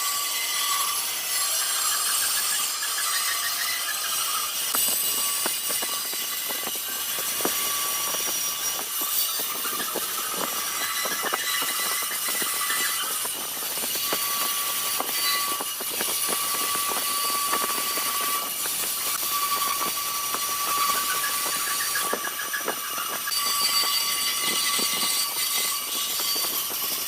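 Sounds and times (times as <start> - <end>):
machine whining with ticks: 0.8 - 27.0.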